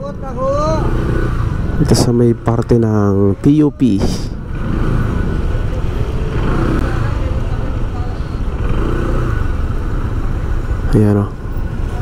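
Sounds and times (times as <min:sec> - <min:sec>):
tyres rolling on road: 0:00.0 - 0:12.0
vehicle engines running: 0:00.0 - 0:12.0.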